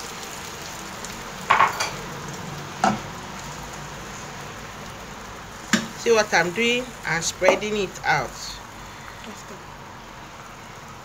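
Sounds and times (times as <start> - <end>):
egg sizzling in frying pan: 0.0 - 11.0.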